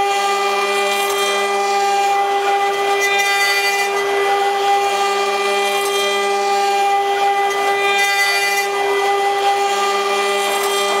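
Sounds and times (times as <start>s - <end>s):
router bit cutting wood: 0.0s - 11.0s
router spindle whine: 0.0s - 11.0s.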